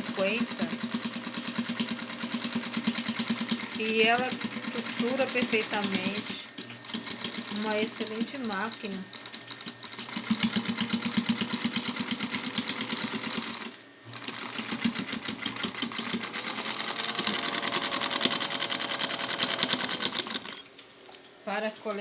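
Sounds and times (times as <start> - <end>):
sewing machine stitching: 0.0 - 20.7.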